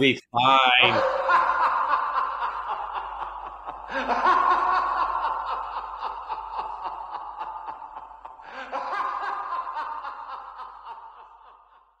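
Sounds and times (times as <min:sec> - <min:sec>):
people laughing: 0:00.8 - 0:12.0.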